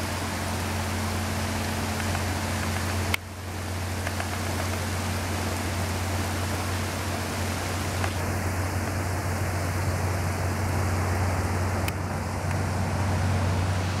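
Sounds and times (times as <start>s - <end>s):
floodwater rushing: 0.0s - 14.0s
steady low hum: 0.0s - 14.0s.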